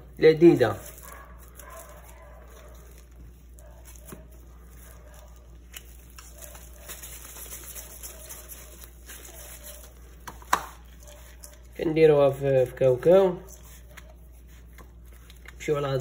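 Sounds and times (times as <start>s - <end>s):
gloved hands rubbing dough: 0.0s - 16.0s.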